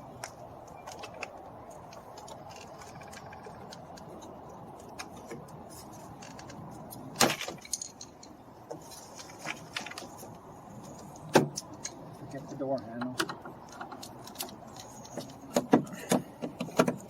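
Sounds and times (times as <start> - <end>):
hand tools clicking and clinking: 0.2 - 17.0.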